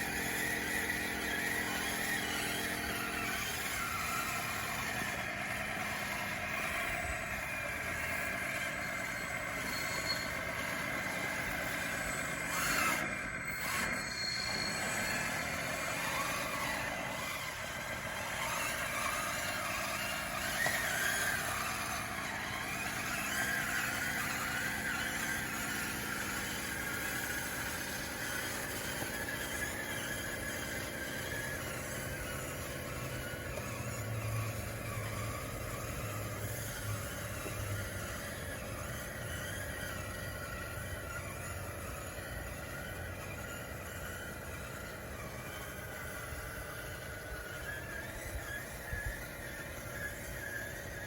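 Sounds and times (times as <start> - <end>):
toy bulldozer motor whine: 0.0 - 51.0
running gear squeak: 7.5 - 51.0.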